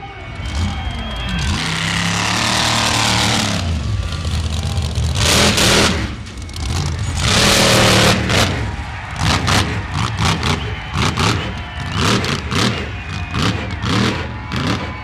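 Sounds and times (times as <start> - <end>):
monster truck engine revving: 0.2 - 15.0.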